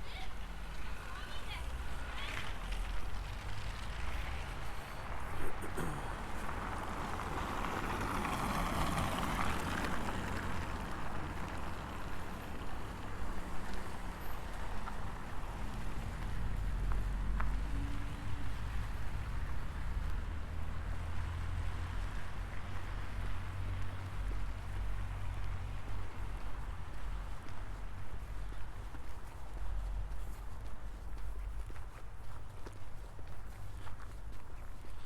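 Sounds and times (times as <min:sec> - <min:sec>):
low rumble of city traffic: 0:00.0 - 0:35.0
vehicle passing: 0:00.6 - 0:34.3.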